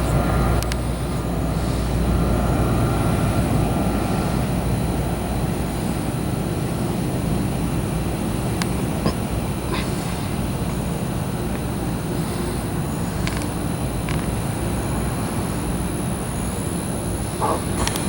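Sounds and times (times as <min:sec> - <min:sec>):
aircraft engines rumbling: 0:00.0 - 0:18.0.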